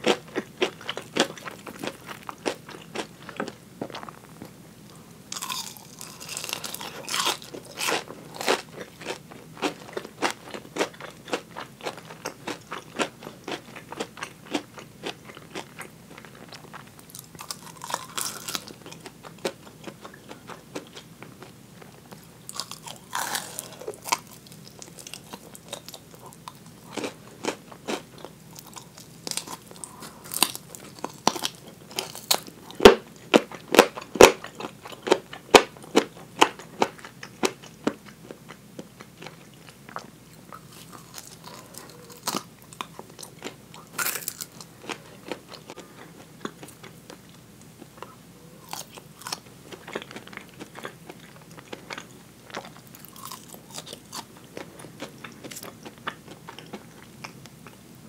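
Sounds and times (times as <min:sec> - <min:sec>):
crunching and chewing fried chicken: 0:00.0 - 0:57.9.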